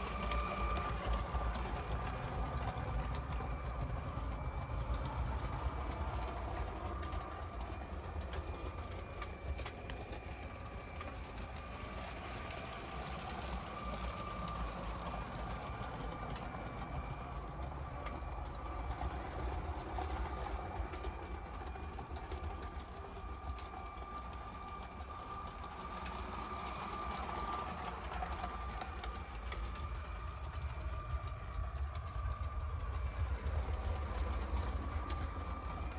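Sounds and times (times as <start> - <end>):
continuous low rumble: 0.0 - 35.9
toy train motor whining: 0.0 - 35.9.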